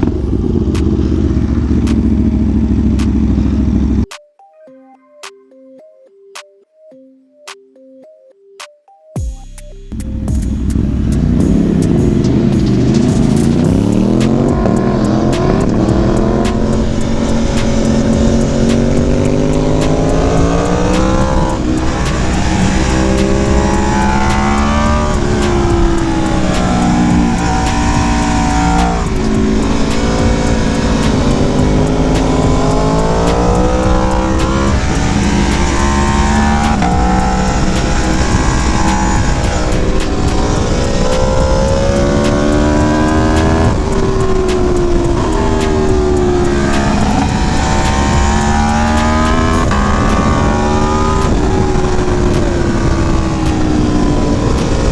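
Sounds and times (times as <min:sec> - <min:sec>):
motorcycle engine revving: 0:09.2 - 0:54.9
wind rushing: 0:09.2 - 0:54.9.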